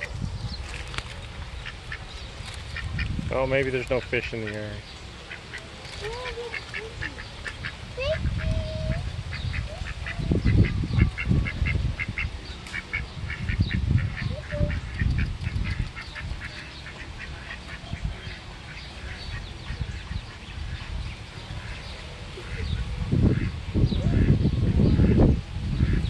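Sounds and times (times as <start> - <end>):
ducks calling: 1.6 - 26.0.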